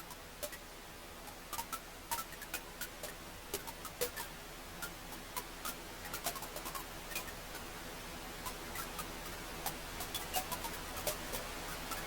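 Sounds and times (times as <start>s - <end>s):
soft steady fire hiss: 0.0s - 12.0s.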